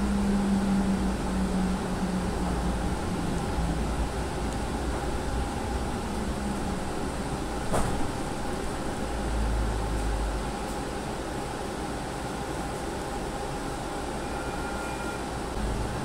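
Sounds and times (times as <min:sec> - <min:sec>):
light rail car rumble: 0:00.0 - 0:16.0.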